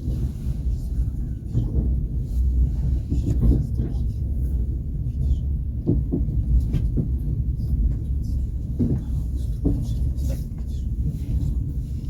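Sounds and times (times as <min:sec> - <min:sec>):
train rolling on rails: 0:00.0 - 0:12.0.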